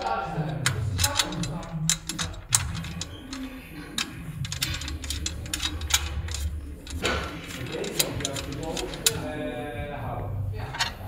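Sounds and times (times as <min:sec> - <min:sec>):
metal frame parts clacking: 0:00.0 - 0:09.9, 0:10.6 - 0:11.0
bolt turned by hand: 0:00.4 - 0:09.5.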